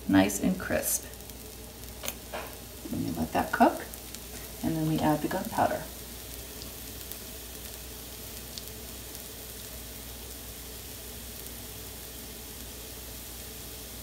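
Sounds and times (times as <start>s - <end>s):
batter sizzling in a skillet: 0.0s - 14.0s.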